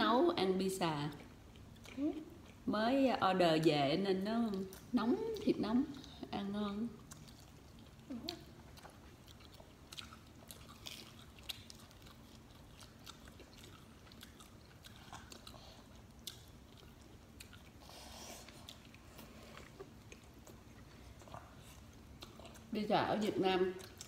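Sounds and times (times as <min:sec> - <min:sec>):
chewing pizza: 0:01.0 - 0:02.7, 0:04.4 - 0:24.0.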